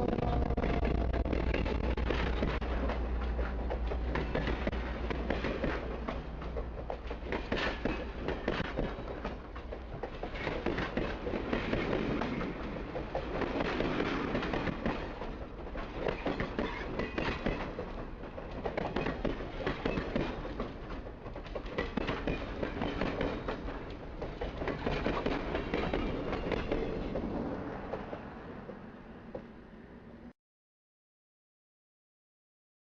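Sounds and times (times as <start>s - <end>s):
train cars rumbling on rails: 0.0s - 30.3s.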